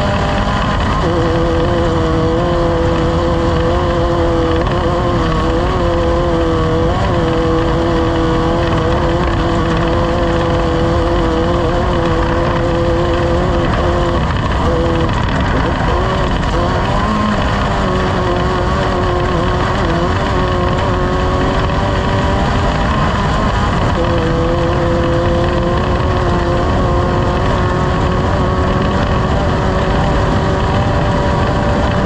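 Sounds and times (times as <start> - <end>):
race vehicle engine running hard: 0.0 - 32.0
wind and road noise: 0.0 - 32.0.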